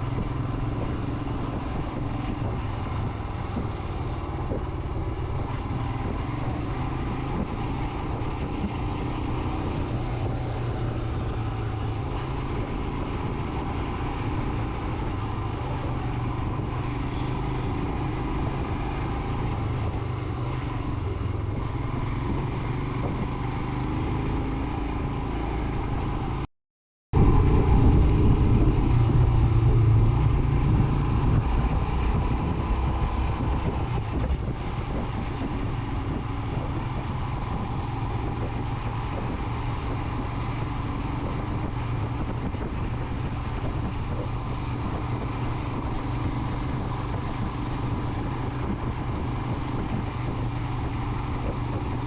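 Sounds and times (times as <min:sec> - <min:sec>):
motorcycle running steadily: 0:00.0 - 0:26.5, 0:27.2 - 0:52.0.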